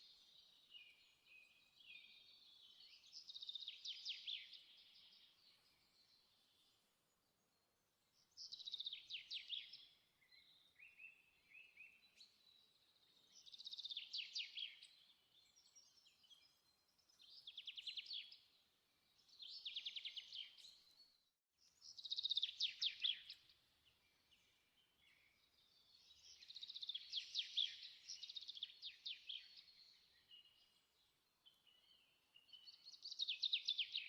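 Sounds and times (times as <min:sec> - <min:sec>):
soft bird chirps: 0:00.0 - 0:34.0.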